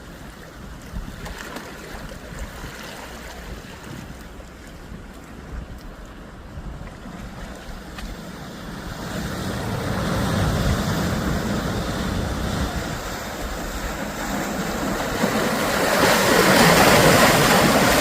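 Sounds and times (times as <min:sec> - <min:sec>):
sea waves washing in: 0:00.0 - 0:18.0
wind buffeting microphone: 0:00.0 - 0:18.0.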